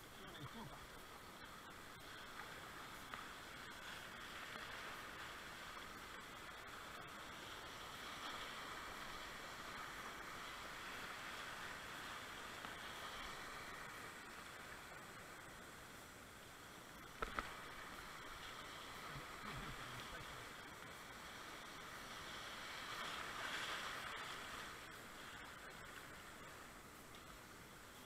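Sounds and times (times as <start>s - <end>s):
faint ticks: 0.0s - 10.4s, 11.7s - 21.4s, 22.8s - 28.0s
whitewater rushing: 0.0s - 15.6s, 17.0s - 27.9s.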